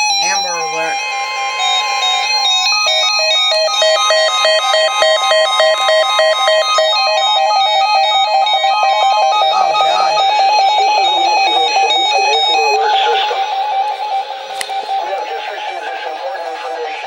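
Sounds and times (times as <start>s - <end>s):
weather radio alarm warbles: 0.0s - 17.0s.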